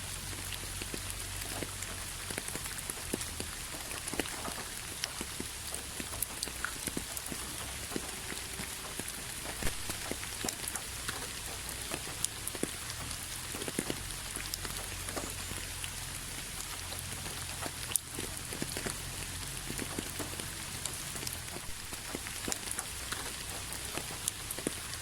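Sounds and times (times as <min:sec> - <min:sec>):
rain falling steadily: 0:00.0 - 0:25.0
raindrops ticking close by: 0:00.0 - 0:25.0.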